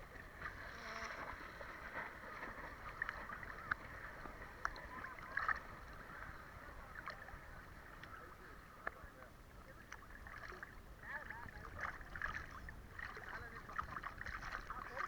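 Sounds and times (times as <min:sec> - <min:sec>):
sea water lapping: 0:00.0 - 0:15.0.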